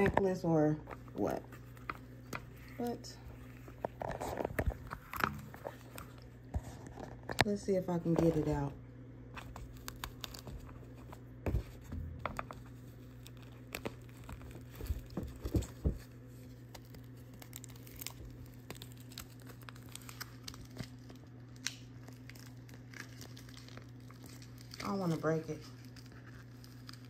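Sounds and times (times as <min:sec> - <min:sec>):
plastic film crinkling: 0:00.0 - 0:08.7, 0:09.3 - 0:27.0
steady low hum: 0:00.0 - 0:27.0.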